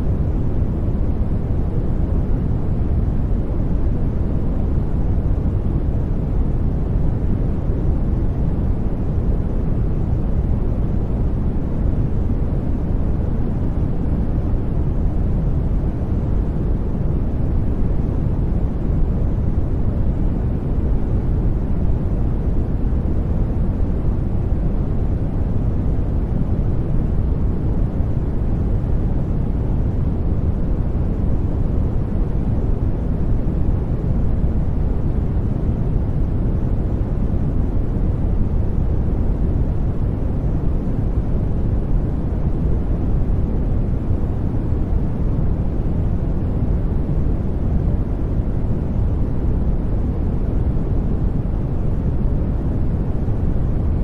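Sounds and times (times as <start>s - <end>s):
deep rumbling brown noise: 0.0s - 54.0s.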